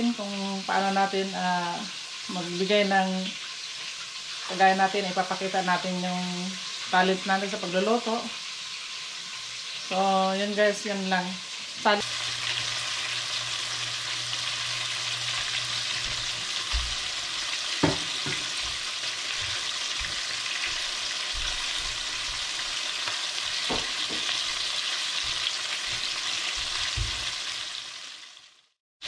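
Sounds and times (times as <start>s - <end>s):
chicken deep-frying in oil: 0.0s - 28.8s.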